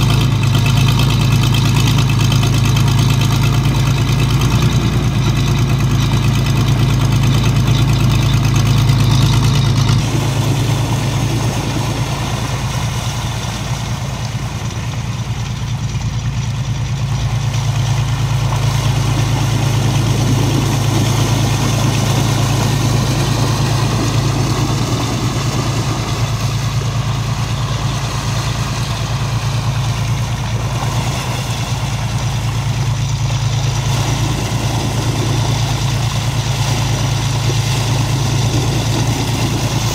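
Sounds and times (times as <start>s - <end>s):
pump engine droning: 0.0s - 39.9s.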